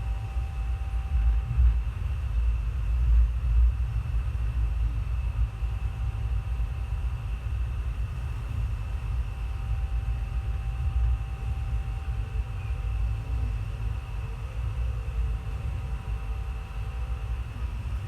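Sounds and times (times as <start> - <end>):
passenger train rumbling: 0.0 - 18.0.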